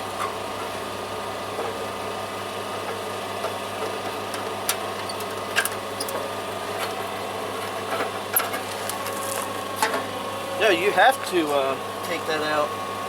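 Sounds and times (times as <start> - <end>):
generator droning: 0.0 - 13.0.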